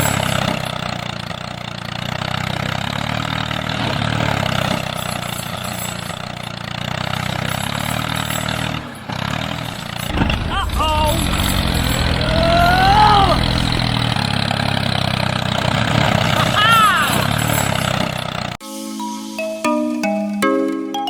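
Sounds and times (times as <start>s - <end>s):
engine humming steadily: 0.0s - 18.6s.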